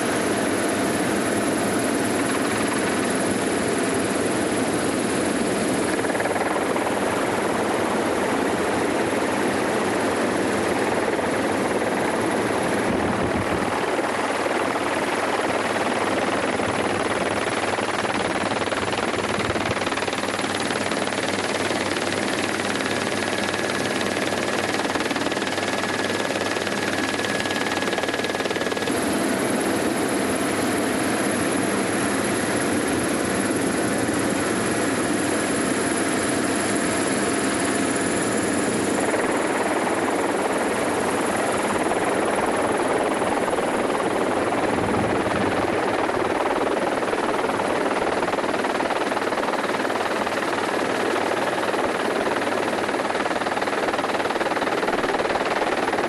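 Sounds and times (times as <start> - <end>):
aircraft rotors whirring: 0.0 - 56.0.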